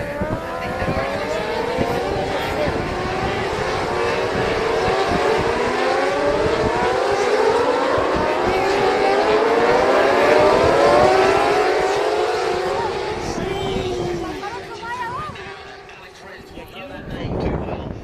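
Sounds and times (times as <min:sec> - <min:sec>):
racing motorcycles accelerating: 0:00.0 - 0:17.7.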